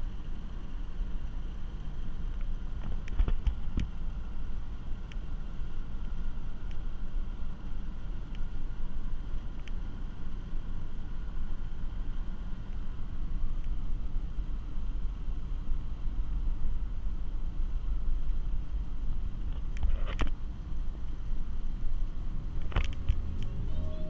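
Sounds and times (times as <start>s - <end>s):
car tyres and engine rumble: 0.0s - 24.0s.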